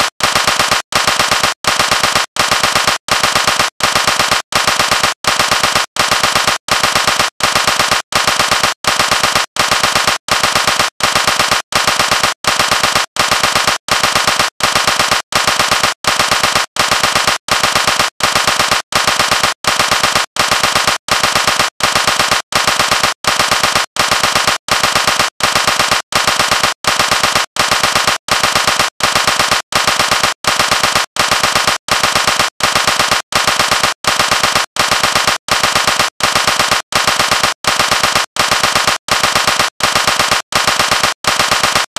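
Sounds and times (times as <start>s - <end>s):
automatic gunfire bursts: 0.0s - 41.9s.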